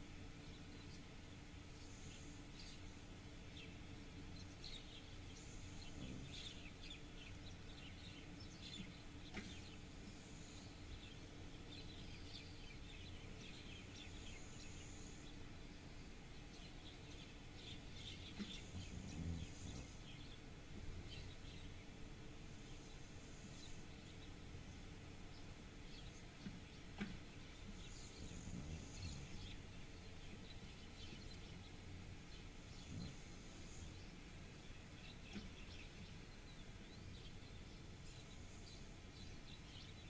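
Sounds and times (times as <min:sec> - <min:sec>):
small birds chirping: 0:00.0 - 0:40.0
steady low hum: 0:00.0 - 0:40.0.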